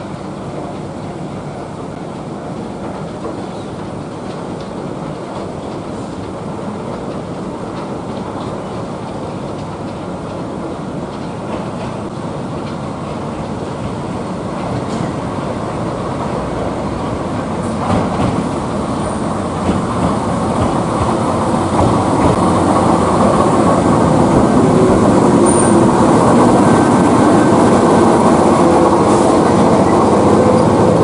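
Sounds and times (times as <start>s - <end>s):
train rumbling on track: 0.0s - 31.0s.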